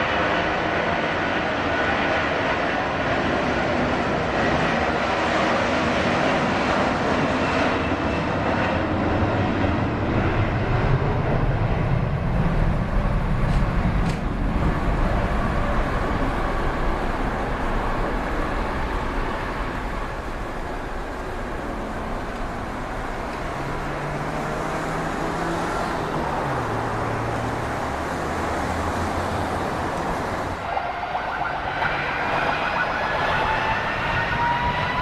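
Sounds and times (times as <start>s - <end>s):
jet airliner rumble: 0.0s - 35.0s.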